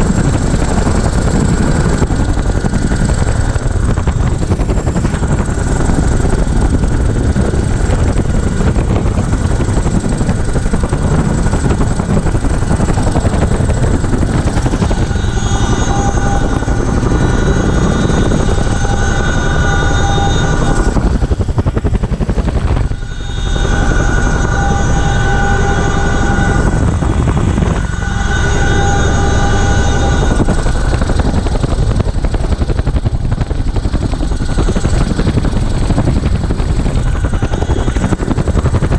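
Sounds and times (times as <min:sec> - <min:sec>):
helicopter rotor and engine noise: 0:00.0 - 0:38.9
high whine: 0:00.0 - 0:38.9.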